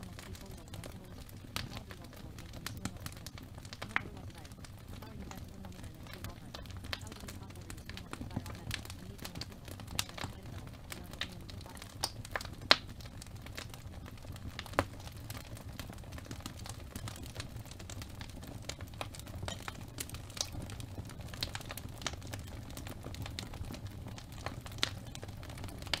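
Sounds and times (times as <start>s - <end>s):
fireplace crackling: 0.0s - 26.0s.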